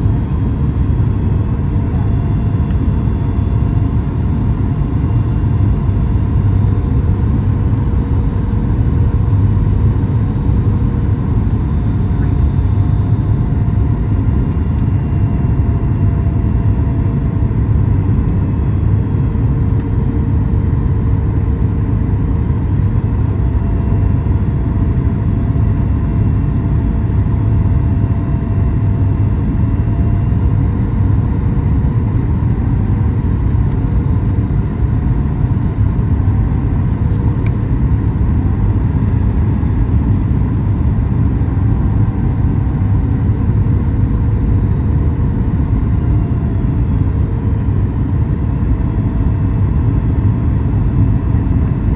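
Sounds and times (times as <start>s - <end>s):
airplane cabin engine drone: 0.0s - 51.9s.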